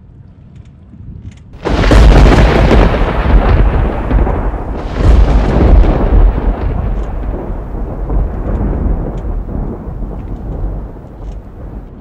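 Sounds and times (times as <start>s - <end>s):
thunder rumbling: 1.6s - 12.0s.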